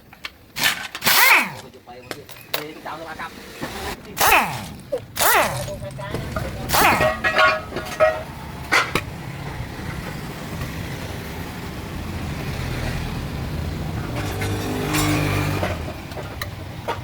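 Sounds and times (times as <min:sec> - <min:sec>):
old car engine rumbling: 0:00.0 - 0:17.0.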